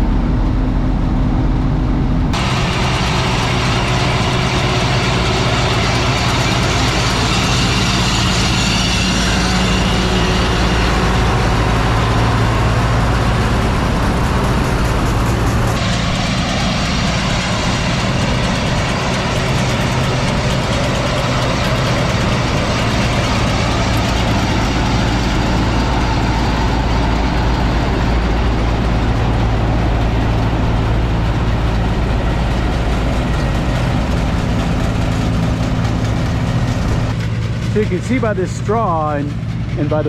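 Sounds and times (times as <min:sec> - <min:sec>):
diesel engine running under load: 0:00.0 - 0:40.0
threshing machinery whirring: 0:02.3 - 0:40.0.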